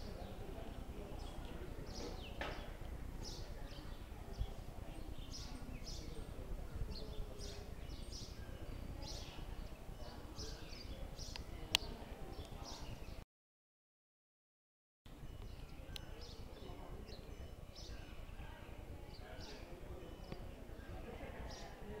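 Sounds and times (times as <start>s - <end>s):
small birds chirping: 0.0s - 13.2s, 15.1s - 22.0s.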